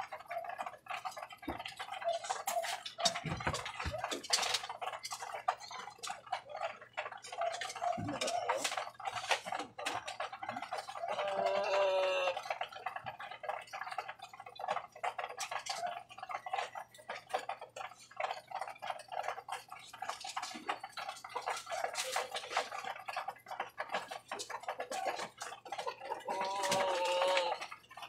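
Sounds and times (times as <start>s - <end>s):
pigeons pecking on wire mesh: 0.0s - 28.0s.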